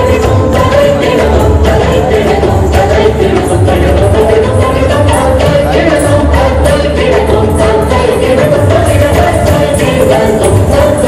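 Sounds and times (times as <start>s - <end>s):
dance music percussion beat: 0.0s - 11.0s
person singing: 0.0s - 11.0s.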